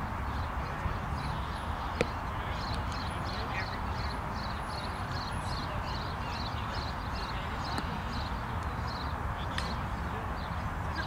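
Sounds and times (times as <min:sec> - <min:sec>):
bird chirping: 0:00.3 - 0:09.8.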